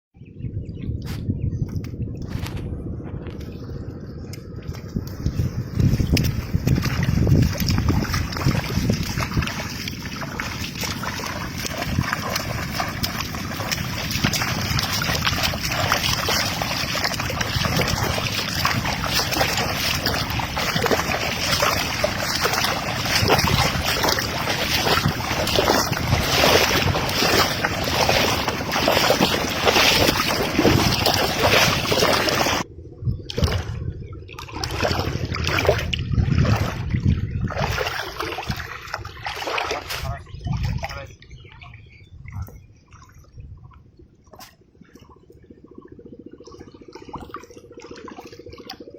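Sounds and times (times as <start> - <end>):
wind rushing over microphone: 0.2 - 44.1.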